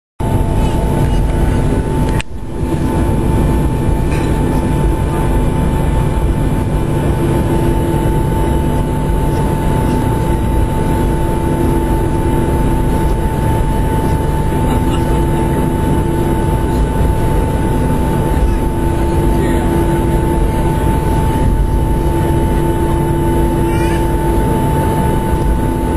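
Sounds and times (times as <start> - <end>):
jet engines heard from cabin: 0.2 - 25.9.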